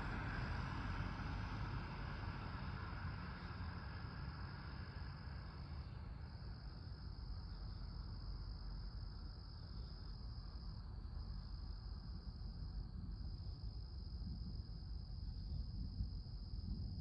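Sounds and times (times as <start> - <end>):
crickets chirping: 0.0 - 17.0
low steady rumble: 0.0 - 17.0.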